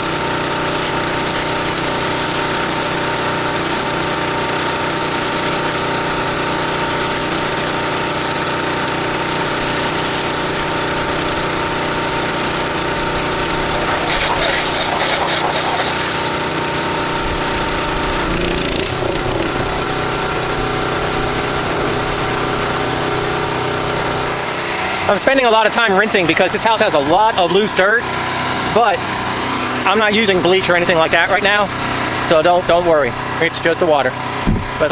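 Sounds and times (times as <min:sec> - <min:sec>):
pressure washer engine running: 0:00.0 - 0:34.9.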